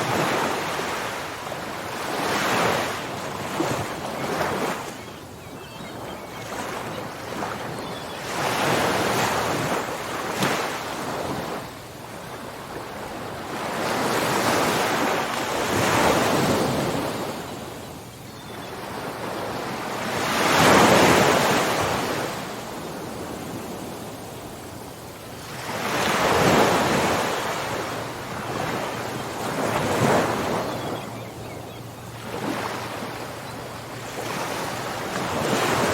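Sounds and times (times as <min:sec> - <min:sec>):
ocean waves breaking on shore: 0:00.0 - 0:35.9.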